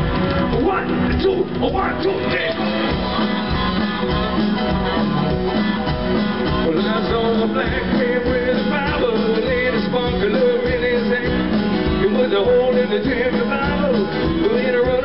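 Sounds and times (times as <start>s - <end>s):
guitars: 0.0s - 15.0s
live country band playing: 0.0s - 15.0s
steady drum beat: 0.0s - 15.0s.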